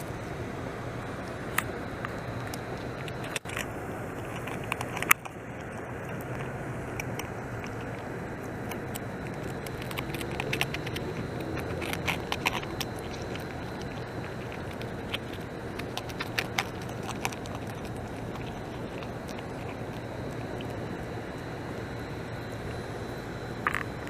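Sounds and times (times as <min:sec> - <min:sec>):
beaver gnawing bark: 0:00.0 - 0:24.0
low background noise: 0:00.0 - 0:24.0.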